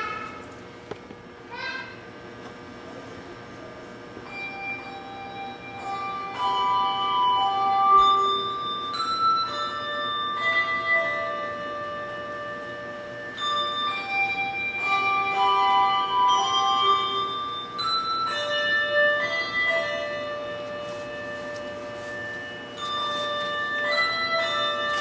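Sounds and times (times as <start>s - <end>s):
handbell chords ringing: 4.2s - 25.0s.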